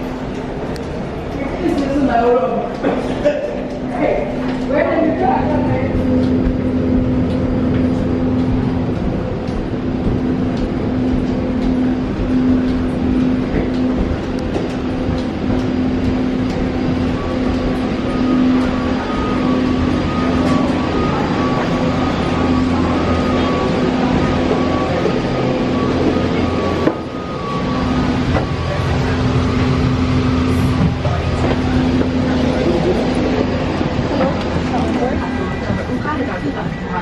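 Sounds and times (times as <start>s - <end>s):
low steady hum: 0.0s - 37.0s
machinery drone: 0.0s - 37.0s.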